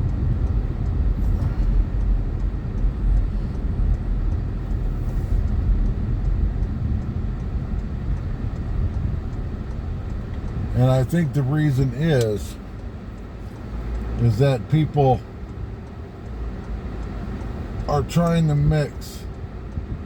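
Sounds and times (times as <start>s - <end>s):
road and engine rumble in car: 0.0s - 20.0s.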